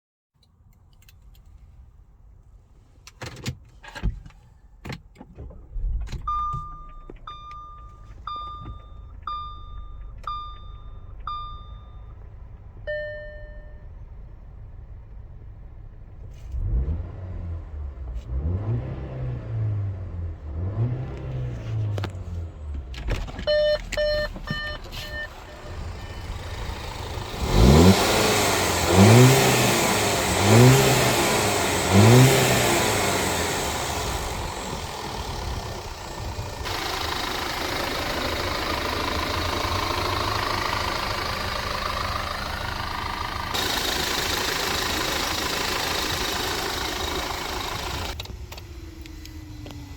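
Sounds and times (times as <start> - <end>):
car engine revving and idling: 9.2 - 49.9.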